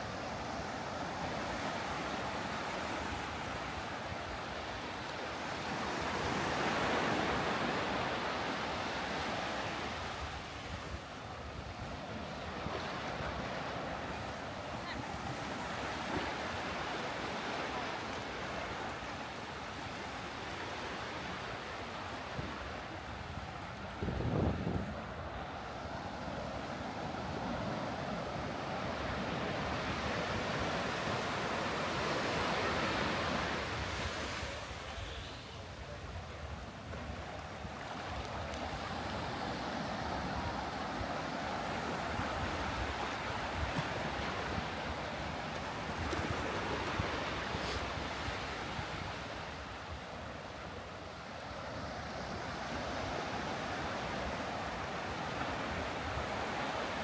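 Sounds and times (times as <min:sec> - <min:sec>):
waves breaking on beach: 0:00.0 - 0:57.0.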